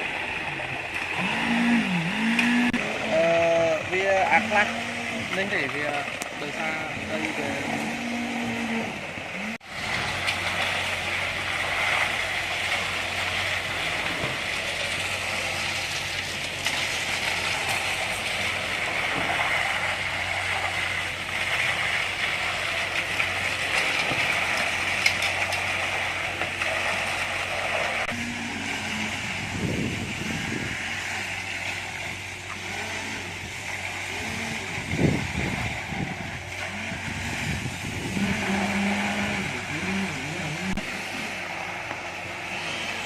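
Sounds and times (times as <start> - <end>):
engine low hum: 0.0 - 43.0
hissing rattling mechanical noise: 3.8 - 43.0.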